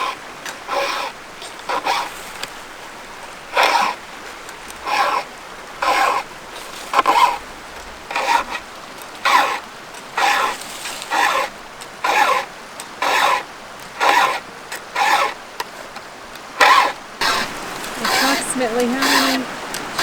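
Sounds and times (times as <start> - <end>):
file rasping on chainsaw chain: 0.0 - 2.6, 3.5 - 7.4, 8.1 - 16.0, 16.6 - 20.0.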